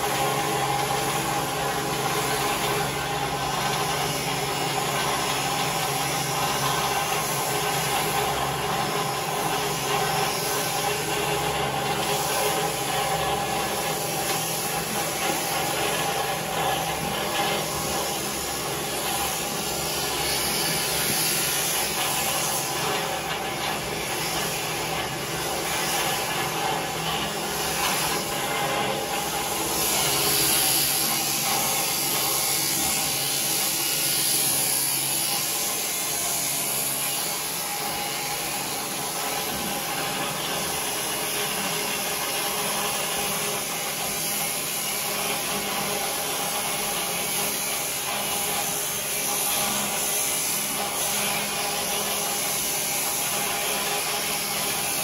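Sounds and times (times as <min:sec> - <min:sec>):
electric clippers running: 0:00.0 - 0:55.0.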